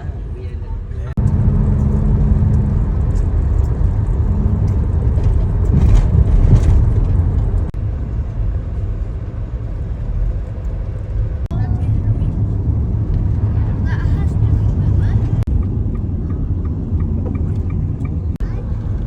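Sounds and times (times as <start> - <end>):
motor vehicle engine rumble: 0.0 - 19.0.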